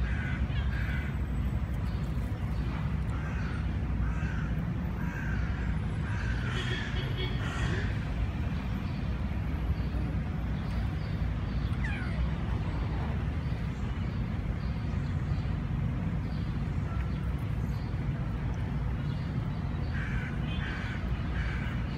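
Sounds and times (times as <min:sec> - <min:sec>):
distant city traffic rumble: 0:00.0 - 0:21.9.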